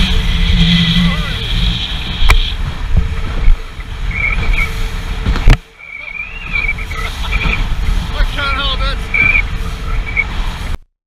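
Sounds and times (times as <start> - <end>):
motorboat engine and spray: 0.0 - 10.8
wind rush on microphone: 0.0 - 10.8.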